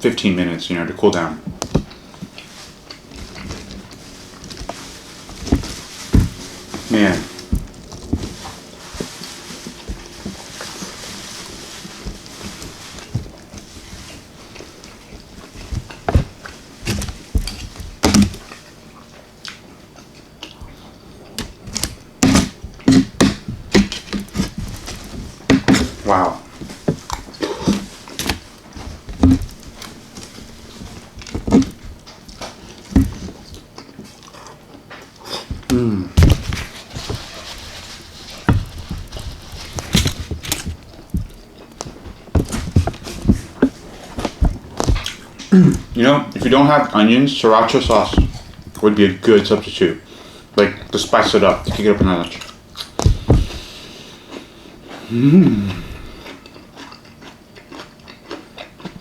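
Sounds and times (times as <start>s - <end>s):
person chewing and eating: 1.5s - 59.0s.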